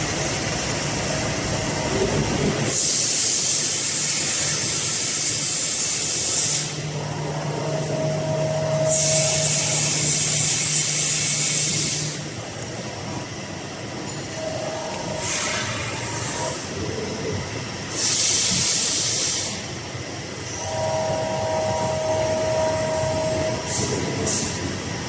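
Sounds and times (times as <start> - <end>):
machine mechanical hum: 0.0 - 25.0
steady machine whine: 0.0 - 25.0
hydraulic hissing surges: 0.3 - 12.5, 14.2 - 25.0.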